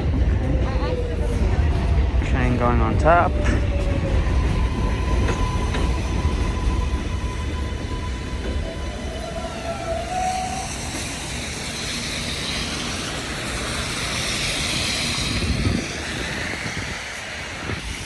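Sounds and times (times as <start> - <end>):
elevated train rumbling on rails: 0.0 - 18.0.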